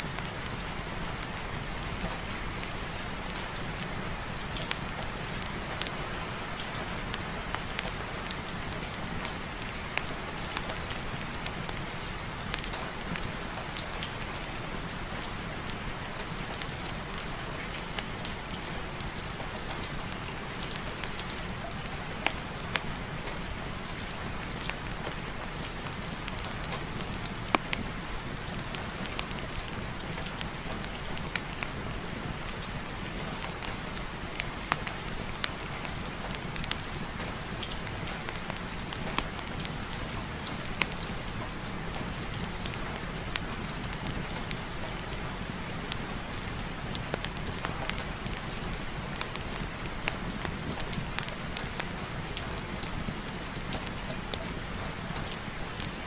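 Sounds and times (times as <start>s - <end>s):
sharp ticks of raindrops: 0.0s - 56.0s
steady rain: 0.0s - 56.0s.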